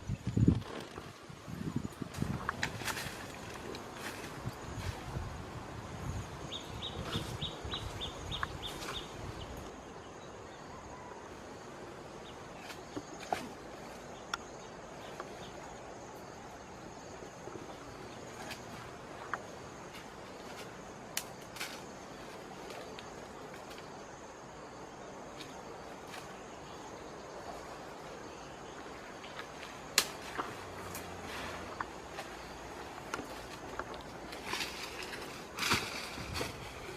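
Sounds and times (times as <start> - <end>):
high insect drone: 0.0 - 36.9.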